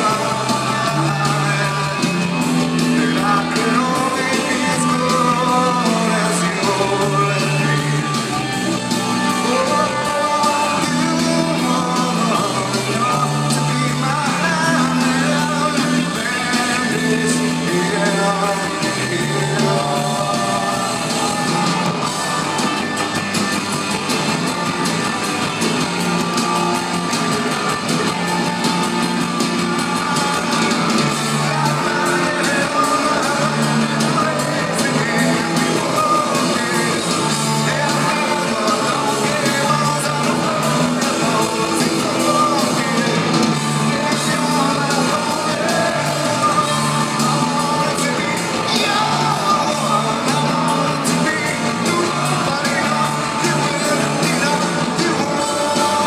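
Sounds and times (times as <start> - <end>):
lead vocal singing and shouting: 0.0 - 56.0
rock band playing live: 0.0 - 56.0.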